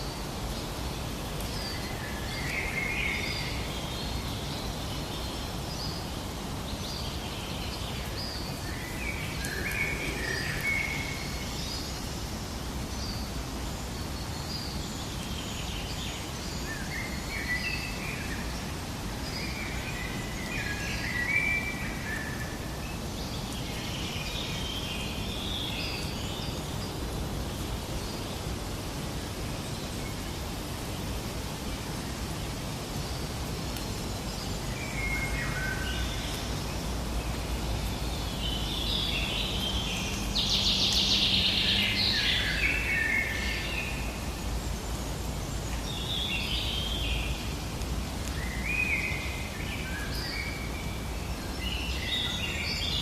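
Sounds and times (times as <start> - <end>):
songbirds chirping and warbling: 0.0 - 53.0.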